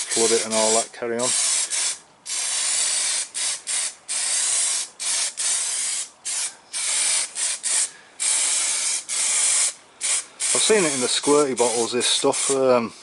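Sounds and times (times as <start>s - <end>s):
spray hissing onto steel: 0.0s - 13.0s.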